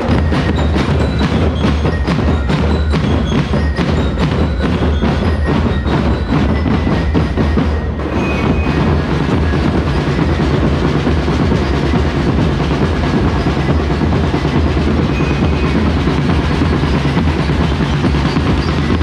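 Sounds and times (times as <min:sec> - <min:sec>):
drum band pounding: 0:00.0 - 0:19.0.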